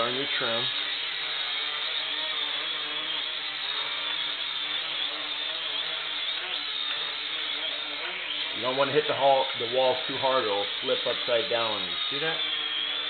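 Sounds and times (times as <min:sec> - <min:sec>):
toy drone propellers whining: 0:00.0 - 0:13.0.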